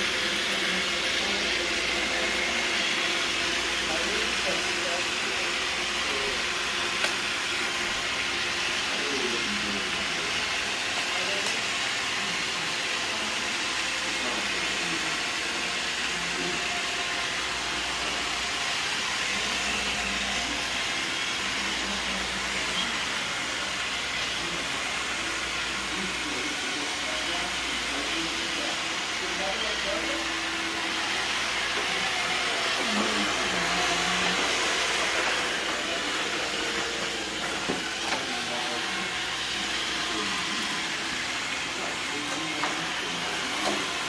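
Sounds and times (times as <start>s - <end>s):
robot vacuum running: 0.0s - 44.0s.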